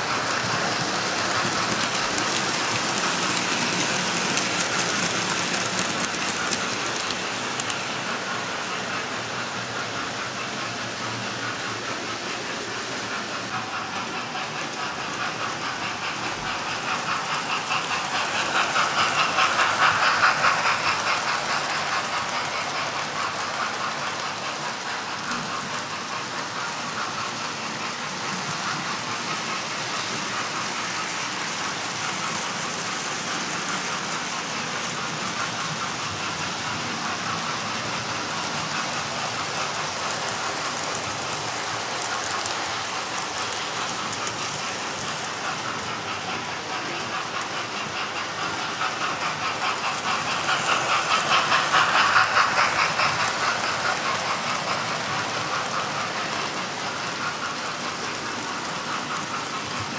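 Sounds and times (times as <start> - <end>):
model trains rattling on track: 0.0 - 59.9.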